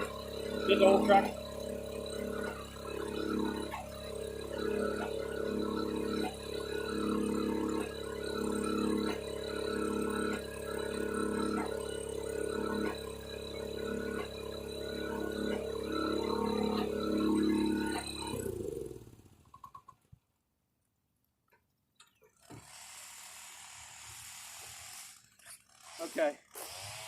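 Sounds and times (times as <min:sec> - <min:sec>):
pressure washer motor droning: 0:00.0 - 0:19.4, 0:22.4 - 0:27.0.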